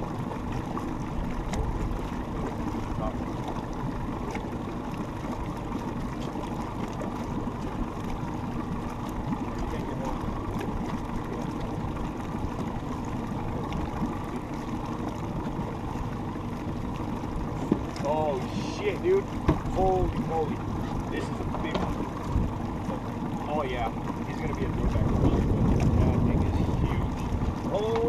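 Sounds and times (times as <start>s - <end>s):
boat motor idling: 0.0s - 28.0s.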